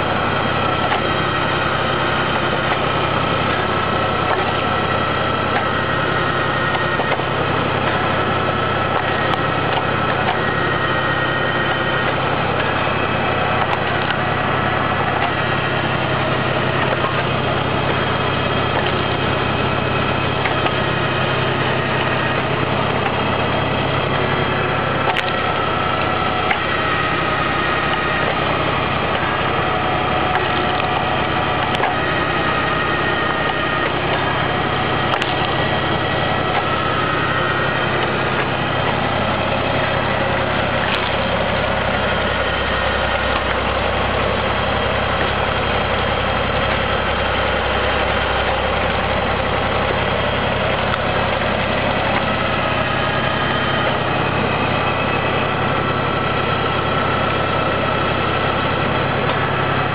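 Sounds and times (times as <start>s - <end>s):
log splitter motor humming: 0.0s - 59.9s
wood cracking: 0.2s - 54.9s.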